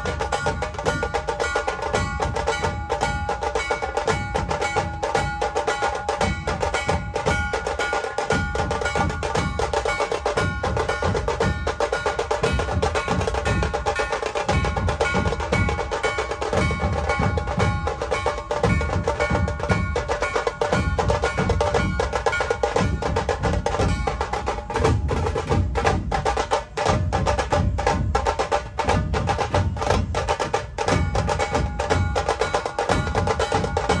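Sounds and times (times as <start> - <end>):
fast dense drumming: 0.0 - 34.0
wood block strikes: 0.0 - 34.0.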